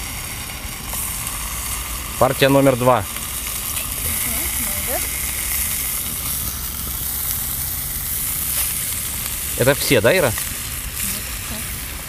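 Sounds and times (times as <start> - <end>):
gas burner hissing: 0.0 - 12.0
sausages sizzling in a pan: 0.0 - 12.0.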